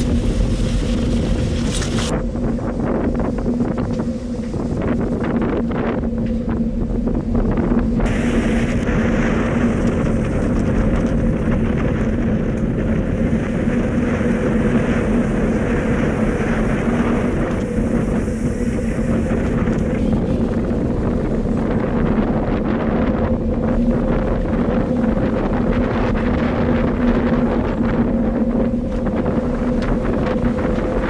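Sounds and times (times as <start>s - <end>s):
low mechanical hum: 0.0s - 31.0s
wind and water noise: 0.0s - 31.0s
wind buffeting microphone: 0.0s - 31.0s.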